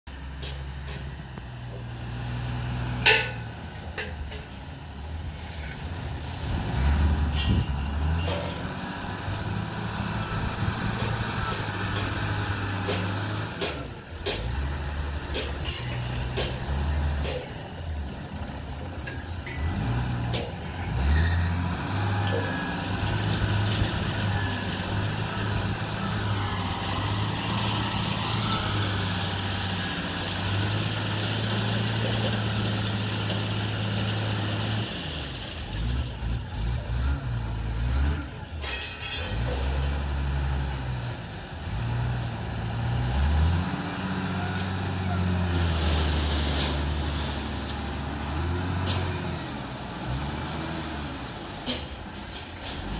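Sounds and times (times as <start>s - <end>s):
wheel loader diesel engine: 0.0s - 52.9s.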